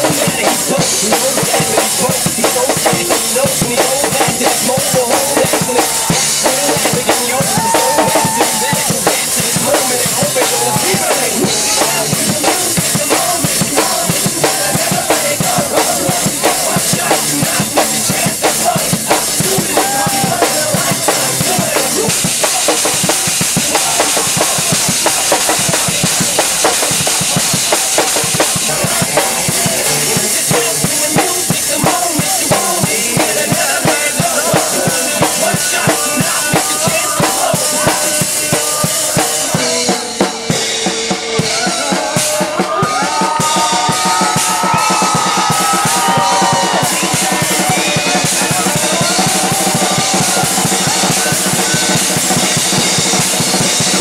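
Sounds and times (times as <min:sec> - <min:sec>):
backing track through a loudspeaker: 0:00.0 - 0:54.0
drum kit played fast and hard: 0:00.0 - 0:54.0.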